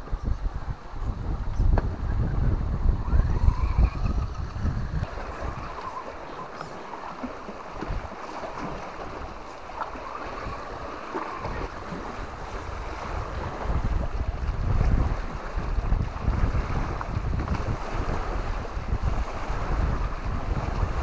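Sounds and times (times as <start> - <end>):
wind buffeting microphone: 0.0 - 21.0
sea waves on rocks: 2.7 - 21.0.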